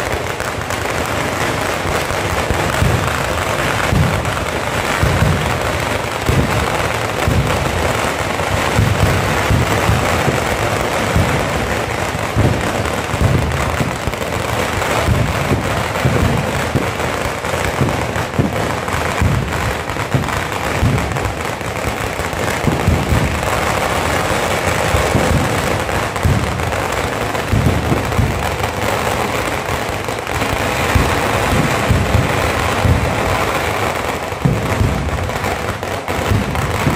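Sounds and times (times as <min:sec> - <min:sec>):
fireworks crackling: 0:00.0 - 0:36.9.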